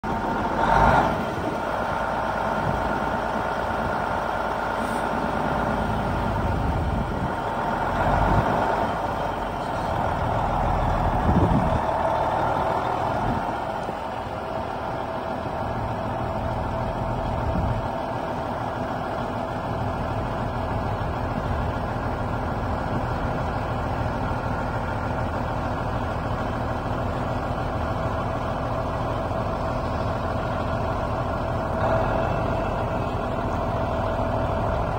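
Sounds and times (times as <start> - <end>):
truck diesel engine running: 0.0 - 34.9.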